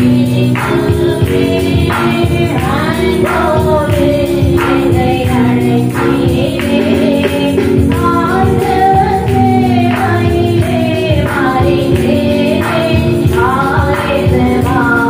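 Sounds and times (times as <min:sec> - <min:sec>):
musical accompaniment: 0:00.0 - 0:15.0
woman singing worship song: 0:00.0 - 0:15.0.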